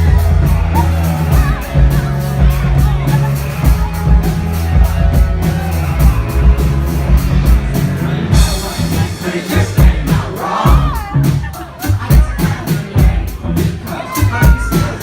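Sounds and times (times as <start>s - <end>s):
heavy bass line: 0.0s - 15.0s
live rock band playing: 0.0s - 15.0s
steady drum beat: 0.0s - 15.0s.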